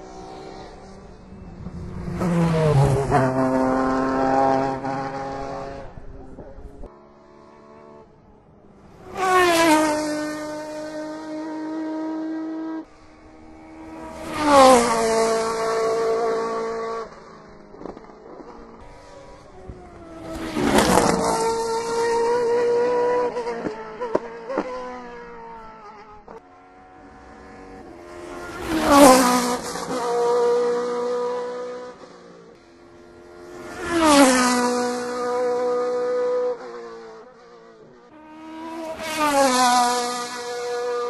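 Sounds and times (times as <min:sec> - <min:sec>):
race cars passing at full throttle: 0:00.0 - 0:41.0.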